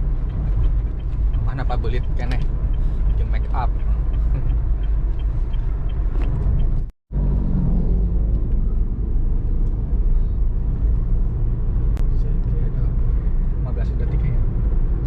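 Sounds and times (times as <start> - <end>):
vehicle driving on road: 0.0 - 15.0.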